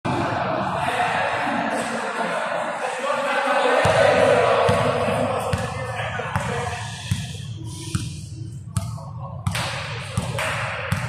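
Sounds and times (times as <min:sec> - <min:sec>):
echoing indistinct voices: 0:00.1 - 0:11.0.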